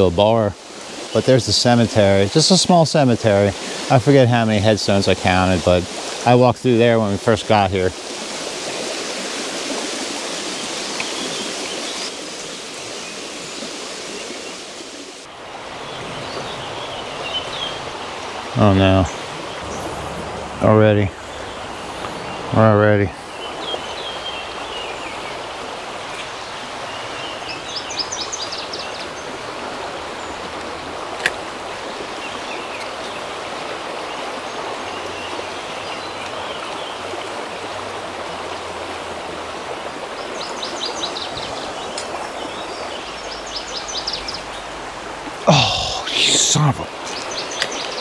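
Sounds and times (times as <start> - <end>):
creek water rushing: 0.0 - 48.0.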